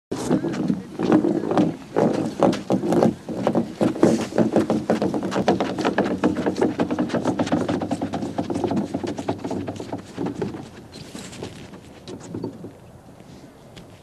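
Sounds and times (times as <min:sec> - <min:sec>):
ice boat runners scraping ice: 0:00.1 - 0:12.7.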